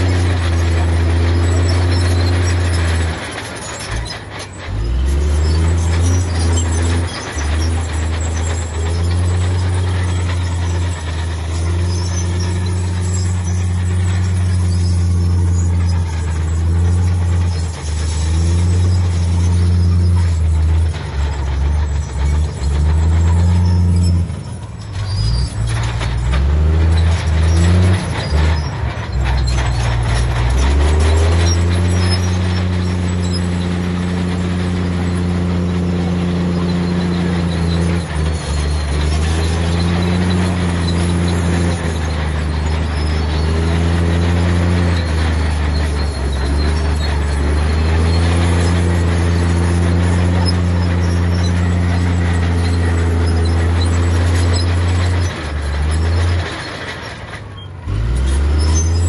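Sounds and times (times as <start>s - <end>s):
heavy diesel machinery engine: 0.0s - 59.0s
noisy clatter: 0.0s - 59.0s.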